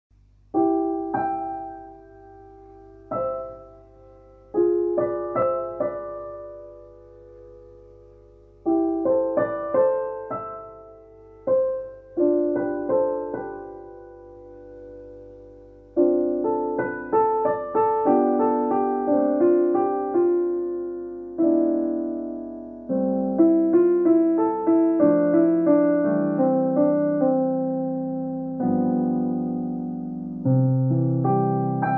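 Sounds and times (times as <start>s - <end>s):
solo piano chords: 0.1s - 31.9s.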